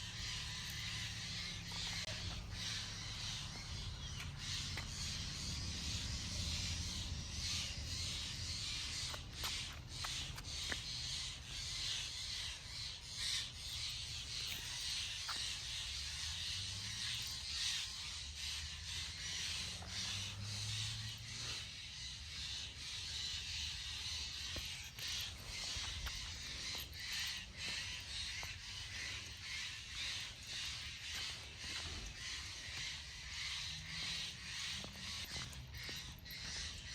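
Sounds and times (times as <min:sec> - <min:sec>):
birds calling: 0:00.0 - 0:36.9.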